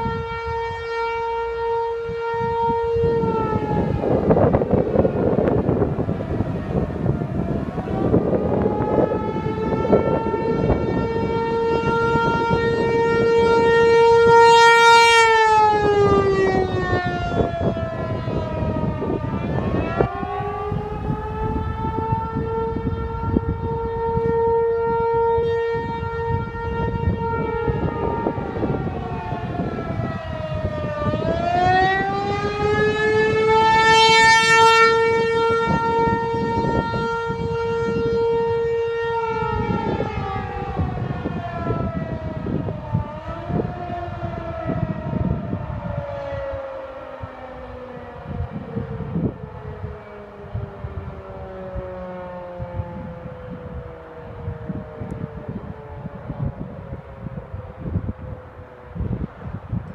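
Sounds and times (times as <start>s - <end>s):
tornado siren wailing: 0.0s - 59.9s.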